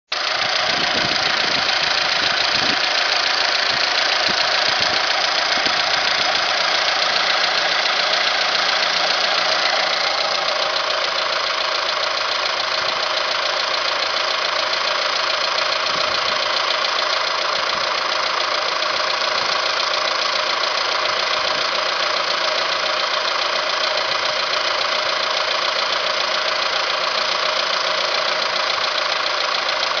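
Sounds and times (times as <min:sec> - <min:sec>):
car engine idling with clatter: 0:00.1 - 0:30.0.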